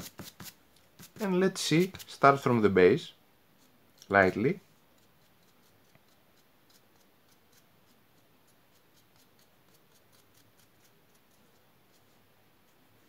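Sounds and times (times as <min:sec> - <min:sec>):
brush bristles scratching: 0:00.0 - 0:02.7, 0:03.6 - 0:13.0.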